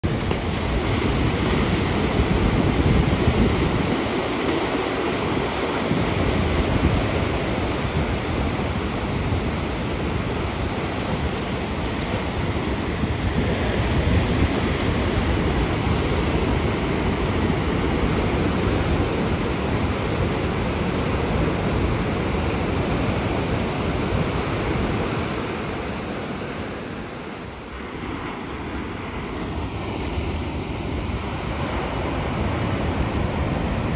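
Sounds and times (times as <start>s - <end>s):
ocean surf breaking: 0.0s - 33.9s
wind buffeting microphone: 0.0s - 33.9s.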